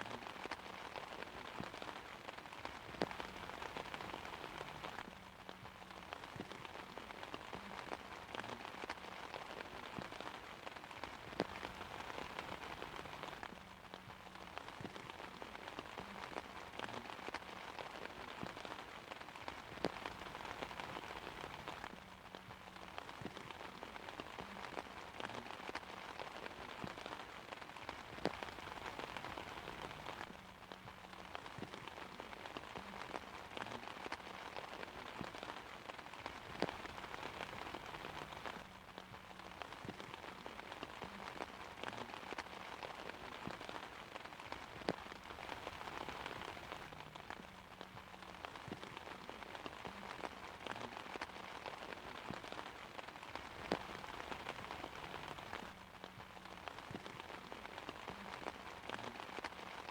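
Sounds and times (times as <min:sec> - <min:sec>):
rain falling on an umbrella: 0:00.0 - 0:59.9.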